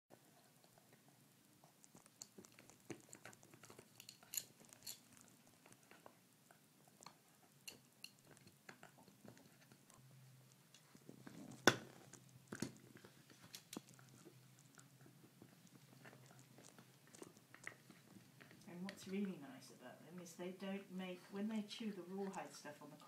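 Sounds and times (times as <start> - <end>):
dog gnawing antler: 0.1 - 18.7.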